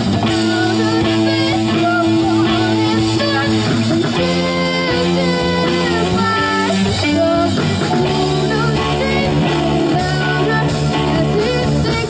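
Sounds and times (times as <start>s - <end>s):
bass guitar: 0.0s - 12.0s
drum kit: 0.0s - 12.0s
electric guitar: 0.0s - 12.0s
person singing: 0.0s - 12.0s.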